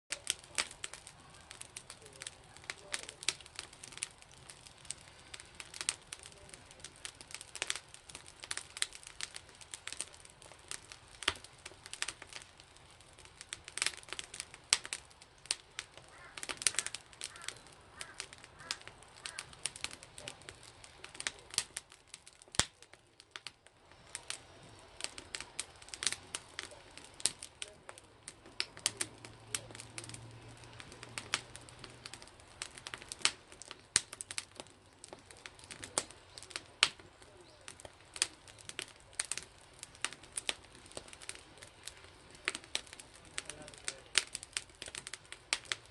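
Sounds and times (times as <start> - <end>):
wood fire crackling and popping: 0.1 - 45.9.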